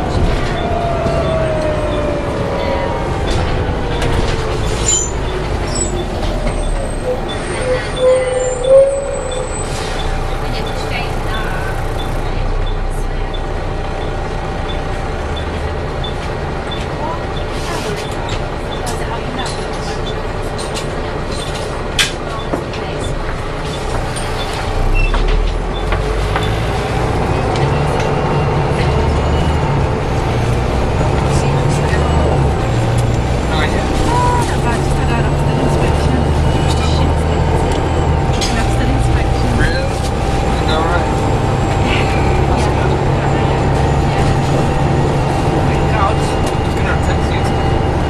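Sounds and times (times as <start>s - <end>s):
bus engine rumble: 0.0s - 48.0s
bus howling tone: 0.0s - 48.0s
road noise: 0.0s - 48.0s.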